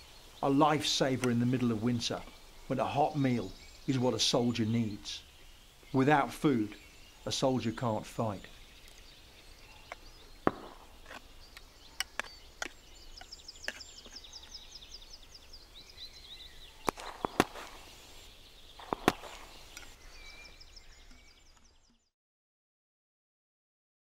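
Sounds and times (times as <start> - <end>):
birds chirping: 0.0 - 22.1.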